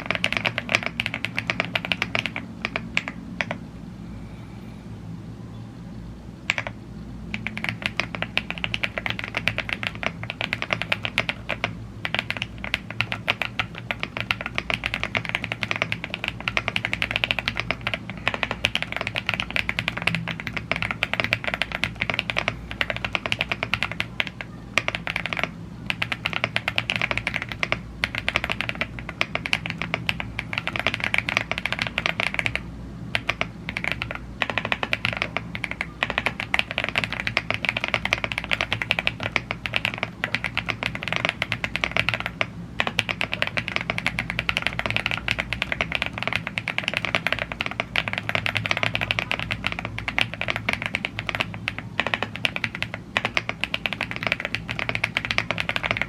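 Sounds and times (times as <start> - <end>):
fast typing on mechanical keyboard: 0.0 - 3.6, 6.5 - 56.0.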